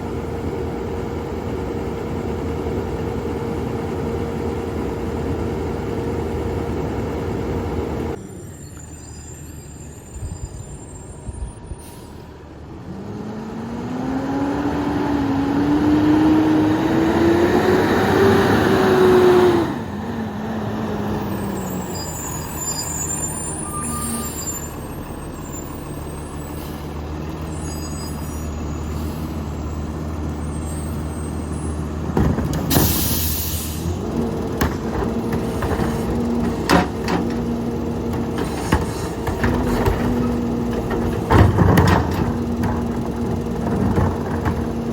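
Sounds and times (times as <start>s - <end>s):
garbage truck engine revving: 0.0s - 8.2s, 12.7s - 44.9s.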